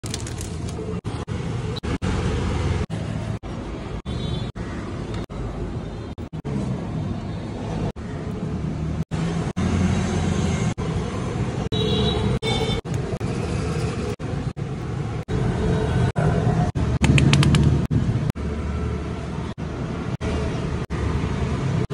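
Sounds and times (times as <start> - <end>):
street traffic rumble: 0.0 - 21.9.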